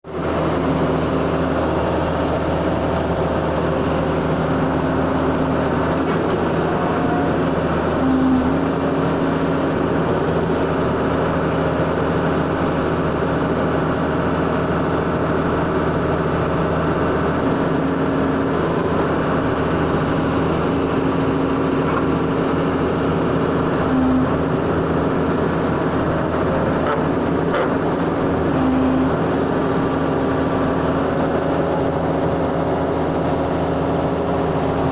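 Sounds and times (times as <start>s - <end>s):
ground drill engine droning: 0.0s - 34.9s.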